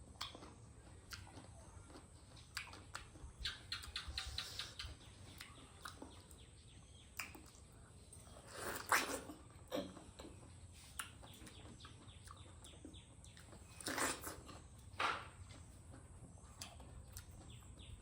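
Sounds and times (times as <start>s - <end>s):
fruit being bitten and chewed: 0.0s - 6.4s, 7.0s - 18.0s.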